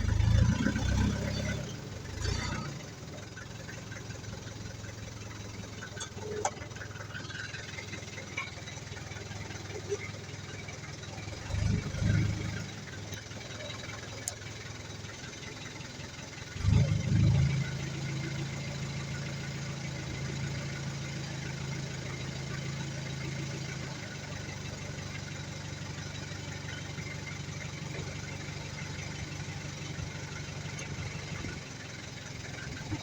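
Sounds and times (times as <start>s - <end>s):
diesel engine revving and idling: 0.0s - 33.0s.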